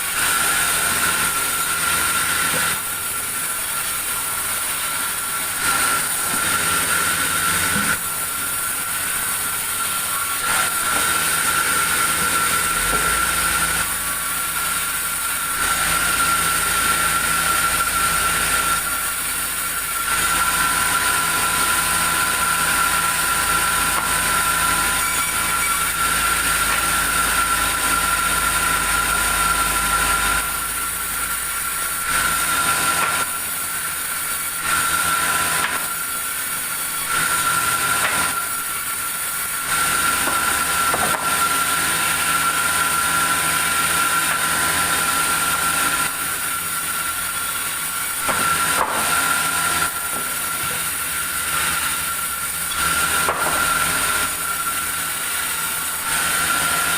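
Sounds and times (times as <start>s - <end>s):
sawmill saw whining: 0.0s - 56.9s.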